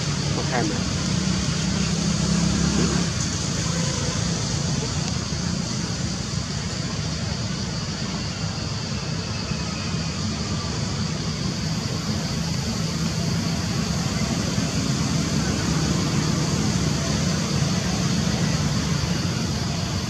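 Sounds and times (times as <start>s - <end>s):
constant high hiss: 0.0s - 20.0s.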